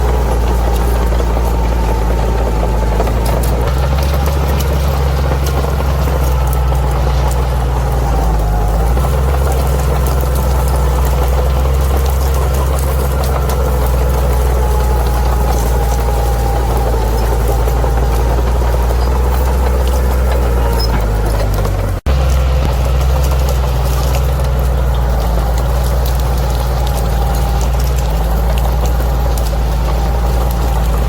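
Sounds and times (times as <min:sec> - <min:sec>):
bulldozer diesel engine drone: 0:00.0 - 0:31.0
faint scattered clicking: 0:00.0 - 0:31.0.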